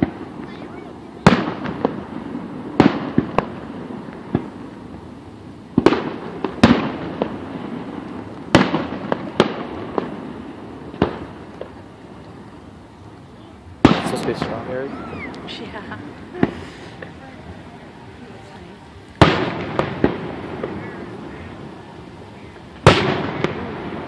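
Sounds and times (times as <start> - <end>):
fireworks booming: 0.0 - 24.0
fireworks popping and crackling: 0.0 - 24.0.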